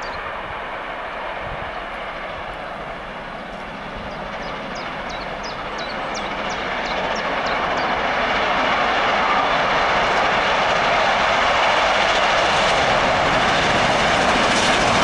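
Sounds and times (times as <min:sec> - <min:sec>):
steam locomotive exhaust roar: 0:00.0 - 0:15.0.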